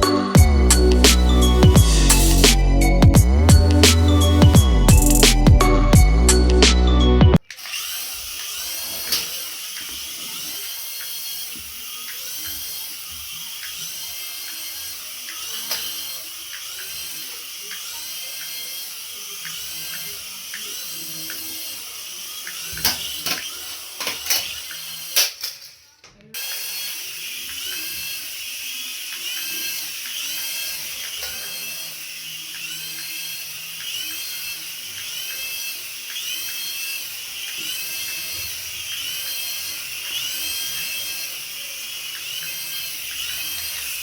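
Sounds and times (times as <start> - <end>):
toy motor whirring: 0.0 - 6.5, 7.4 - 44.0.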